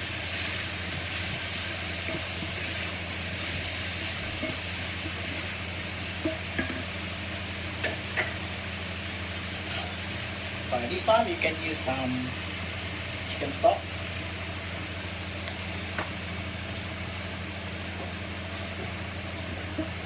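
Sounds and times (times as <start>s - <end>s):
onions sizzling in frying pan: 0.0s - 20.0s.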